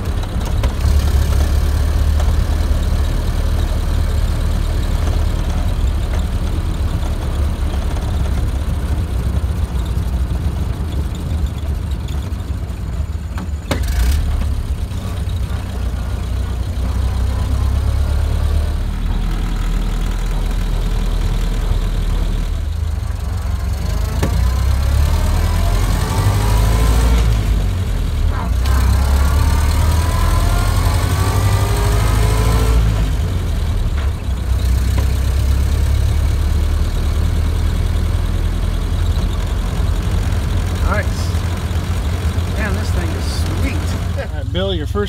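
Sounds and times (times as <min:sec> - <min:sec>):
car engine running: 0:00.0 - 0:45.0.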